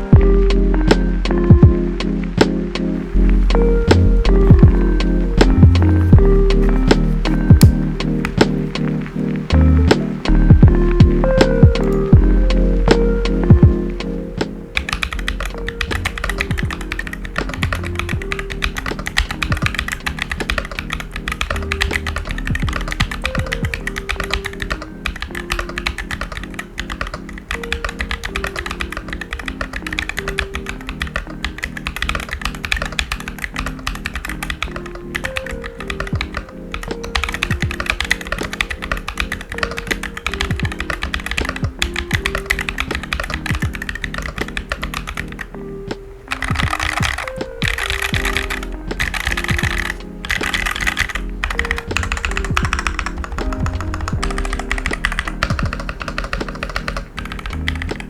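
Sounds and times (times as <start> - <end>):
background music: 0.0 - 58.0
mechanical keyboard typing: 3.5 - 45.6, 46.3 - 58.0.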